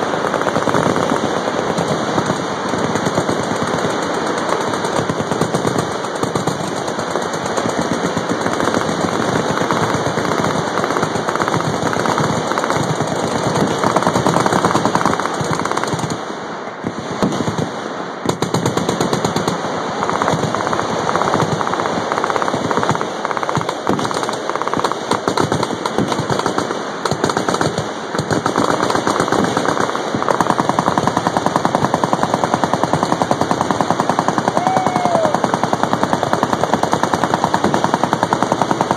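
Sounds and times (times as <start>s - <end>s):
automatic machine gun fire: 0.0s - 38.9s.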